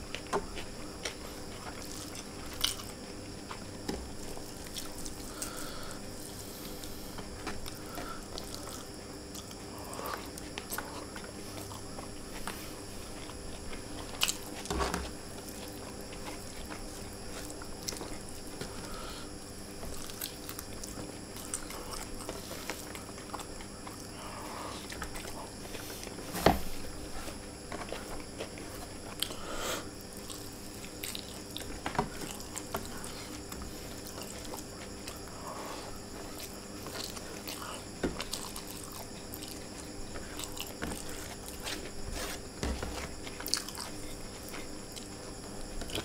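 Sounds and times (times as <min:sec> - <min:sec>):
man chewing food: 0:00.0 - 0:46.0.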